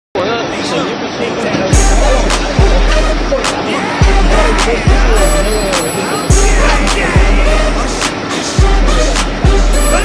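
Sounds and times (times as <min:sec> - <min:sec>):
music with heavy bass beat: 0:01.8 - 0:10.0.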